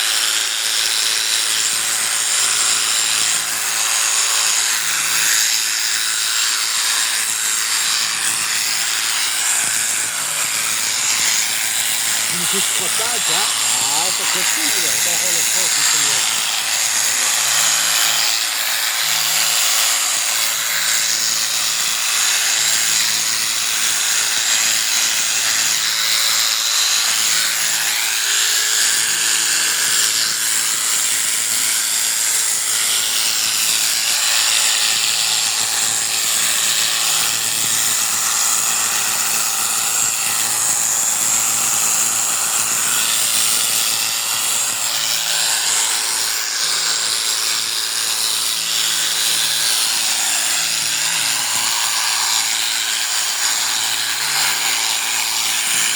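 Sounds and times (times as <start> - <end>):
electric clippers buzzing: 0.0 - 55.9.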